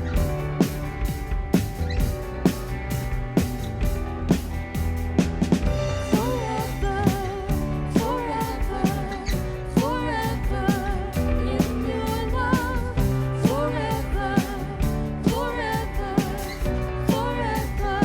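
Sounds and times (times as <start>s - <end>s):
bass line: 0.0s - 18.0s
drum kit steady beat: 0.0s - 18.0s.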